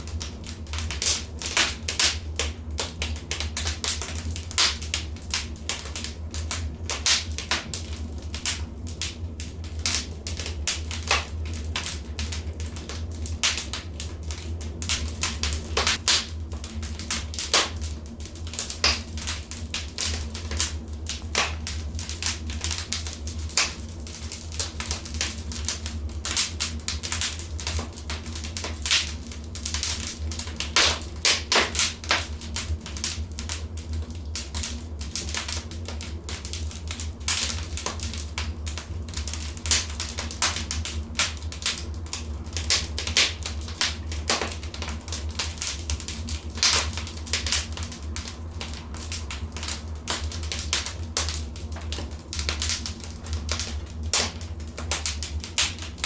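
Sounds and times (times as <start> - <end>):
fire low rumble: 0.0 - 56.0
wood fire snaps and pops: 0.0 - 56.0.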